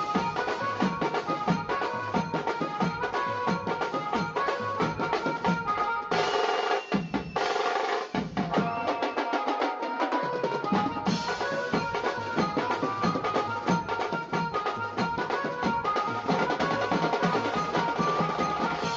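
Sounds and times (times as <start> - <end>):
drum and percussion music: 0.0 - 18.9
drum roll: 0.0 - 18.9.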